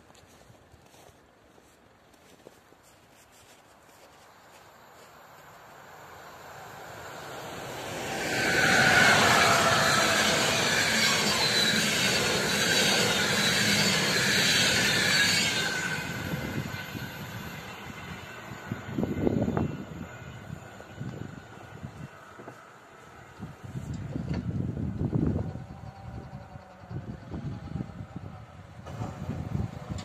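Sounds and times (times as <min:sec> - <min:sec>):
train wheels rushing on rail: 0:05.0 - 0:30.0.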